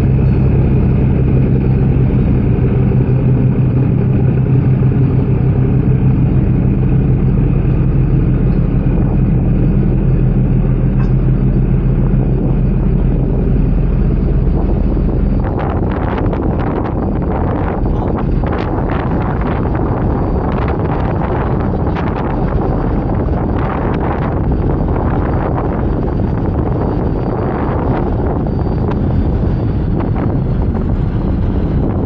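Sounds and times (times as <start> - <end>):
diesel engines droning: 0.0 - 32.0.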